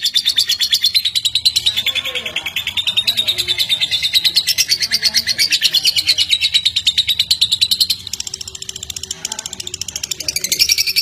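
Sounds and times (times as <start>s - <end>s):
lovebird chattering trill: 0.0s - 11.0s.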